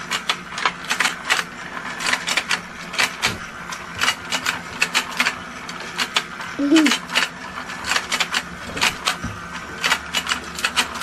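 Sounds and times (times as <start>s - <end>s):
toy motor humming: 0.0s - 11.0s.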